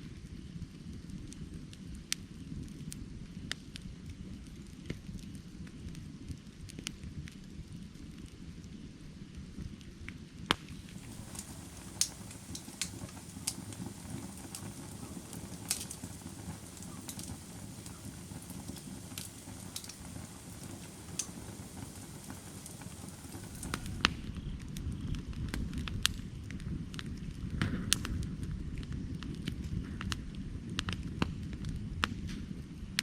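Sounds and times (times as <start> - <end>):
fire crackling and popping: 0.0 - 33.0
firewood burning: 0.0 - 33.0.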